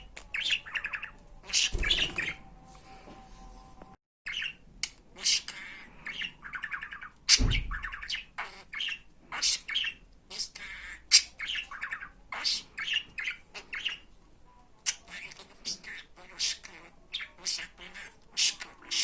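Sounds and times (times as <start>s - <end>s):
budgerigar chirping: 0.0s - 2.4s, 4.3s - 14.1s, 14.9s - 19.0s.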